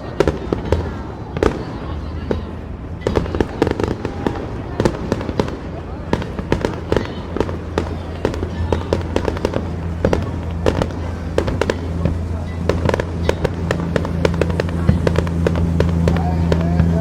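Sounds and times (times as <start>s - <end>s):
firework bang: 0.0s - 17.0s
fireworks popping and crackling: 0.0s - 17.0s
steady low hum: 0.0s - 17.0s.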